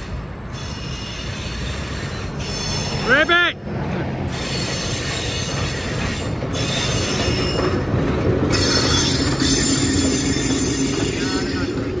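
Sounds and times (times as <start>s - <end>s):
diesel locomotive engine running: 0.0s - 12.0s
train wheels rolling on rails: 0.0s - 12.0s.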